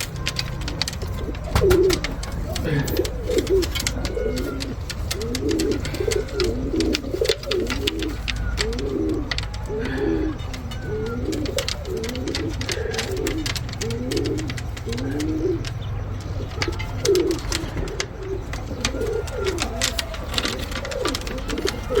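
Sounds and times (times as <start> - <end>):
pigeons cooing: 0.0 - 22.0
sharp clicks and taps: 0.0 - 22.0.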